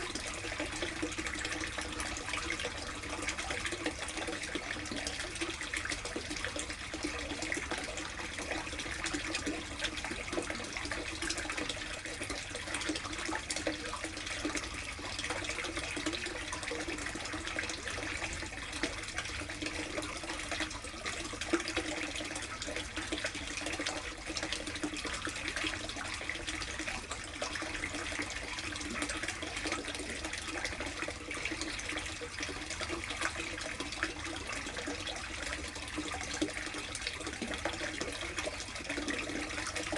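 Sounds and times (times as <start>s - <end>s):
water running into plastic tub: 0.0s - 39.9s.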